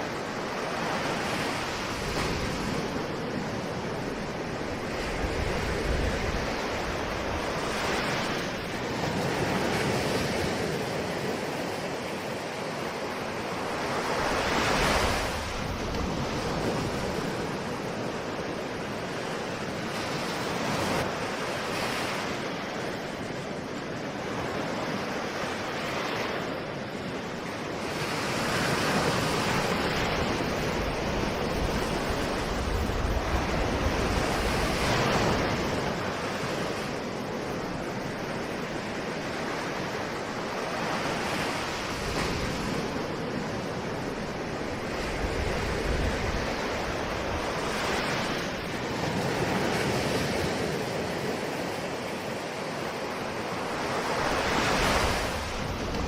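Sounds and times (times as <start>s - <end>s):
ocean waves washing ashore: 0.0s - 56.0s
wind: 0.0s - 56.0s.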